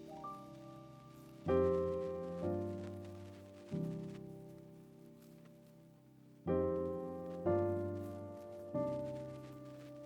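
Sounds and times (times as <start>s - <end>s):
soft keyboard chords: 0.0s - 10.0s.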